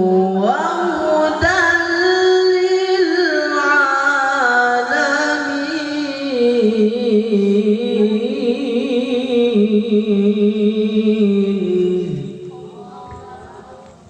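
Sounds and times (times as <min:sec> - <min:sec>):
person reciting melismatic chant: 0:00.0 - 0:14.0.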